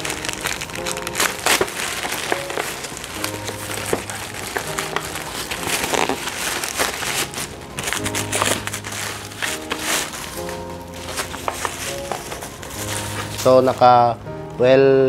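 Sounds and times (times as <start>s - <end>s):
plastic and bubble wrap crinkling: 0.0s - 14.2s
background music: 0.0s - 15.0s.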